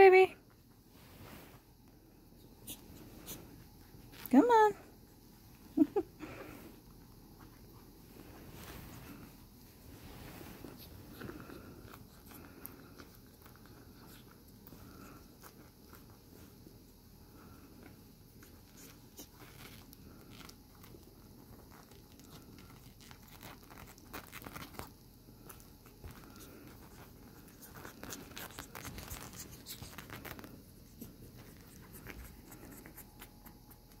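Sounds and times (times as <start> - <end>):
bedsheet rustling and scratching: 0.6 - 4.3, 5.0 - 16.9, 17.8 - 33.9.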